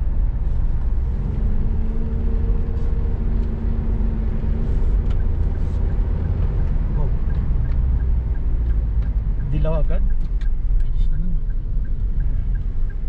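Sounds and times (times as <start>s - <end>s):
car engine and tyre rumble: 0.0s - 13.0s
engine hum: 0.0s - 13.0s.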